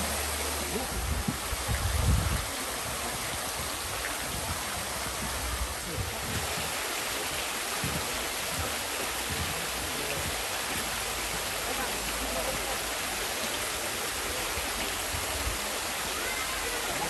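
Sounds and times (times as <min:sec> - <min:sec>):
small waterfall splashing into pool: 0:00.0 - 0:17.0.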